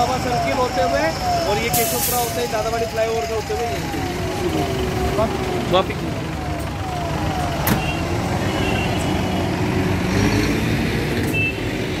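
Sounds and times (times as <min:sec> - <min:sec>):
fire engine diesel engine running: 0:00.0 - 0:09.8.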